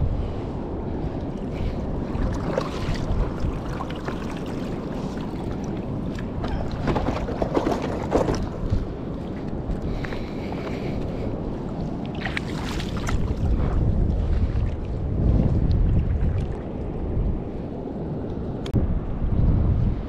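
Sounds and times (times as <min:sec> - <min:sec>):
wind noise: 0:00.0 - 0:20.0
sea water sloshing and splashing: 0:00.9 - 0:17.4.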